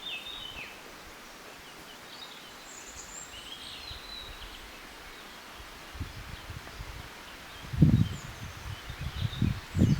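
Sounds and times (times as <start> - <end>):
small birds chirping and trilling: 0.0 - 9.9.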